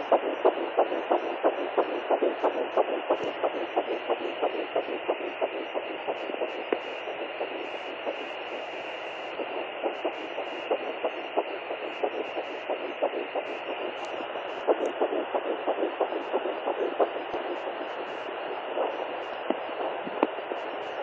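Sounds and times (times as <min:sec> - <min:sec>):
fetal heartbeat pulses: 0:00.0 - 0:21.0
static hiss: 0:00.0 - 0:21.0.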